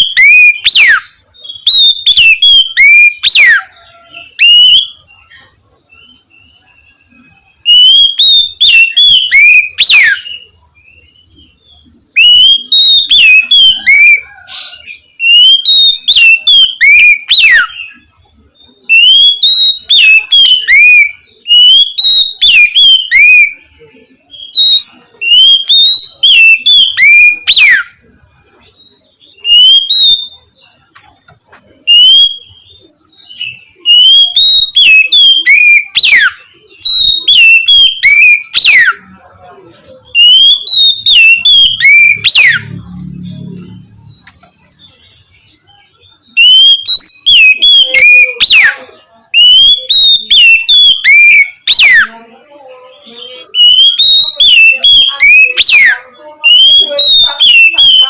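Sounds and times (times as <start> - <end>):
bird singing whistled phrases: 0.0 - 28.1, 28.8 - 30.8, 31.8 - 52.2, 53.0 - 58.0.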